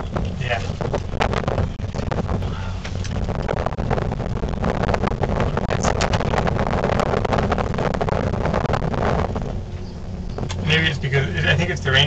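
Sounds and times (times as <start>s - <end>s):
gondola cabin running noise: 0.0s - 12.0s
wind over microphone: 0.0s - 12.0s.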